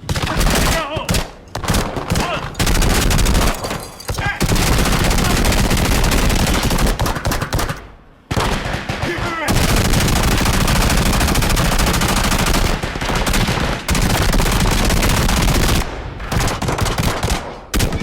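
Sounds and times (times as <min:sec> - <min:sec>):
machine-gun and rifle fire: 0:00.0 - 0:18.0.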